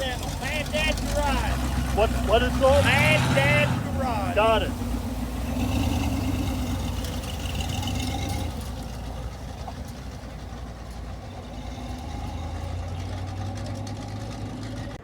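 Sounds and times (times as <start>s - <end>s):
car engine running low revs: 0.0s - 15.0s.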